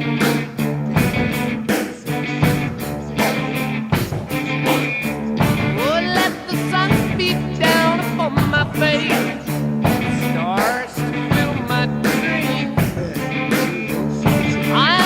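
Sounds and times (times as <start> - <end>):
electric guitar rock music: 0.0 - 15.0
steady drum beat: 0.0 - 15.0.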